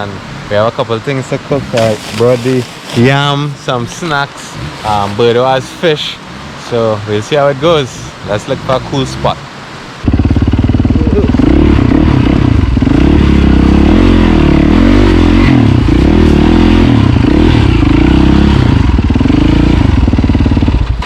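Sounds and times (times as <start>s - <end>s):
motorcycle engine revving: 1.4s - 21.0s.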